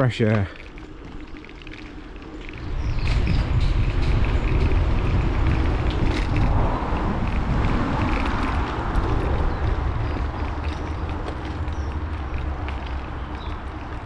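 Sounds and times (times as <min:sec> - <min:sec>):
wind buffeting microphone: 0:00.0 - 0:14.0
bicycle tyres hissing on path: 0:00.1 - 0:14.0.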